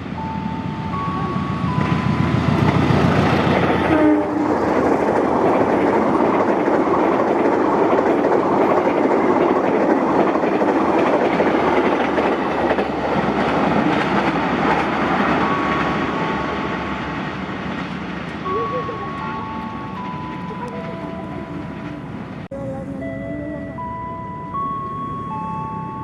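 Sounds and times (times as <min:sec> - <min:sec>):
passenger train passing at speed: 0:00.0 - 0:26.0.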